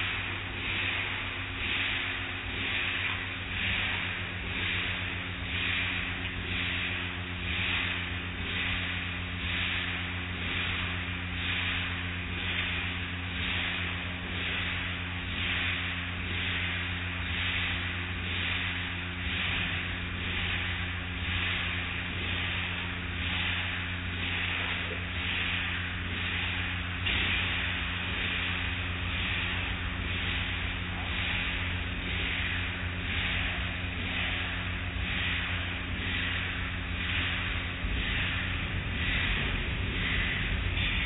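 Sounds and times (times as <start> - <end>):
low mechanical hum: 0.0 - 41.0
water spray hiss: 0.0 - 41.0.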